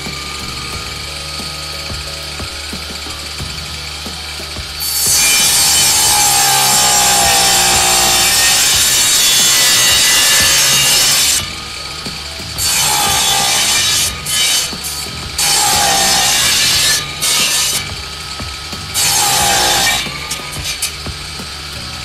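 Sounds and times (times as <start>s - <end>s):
drill humming: 0.0s - 22.0s
saw cutting wood: 0.0s - 22.0s.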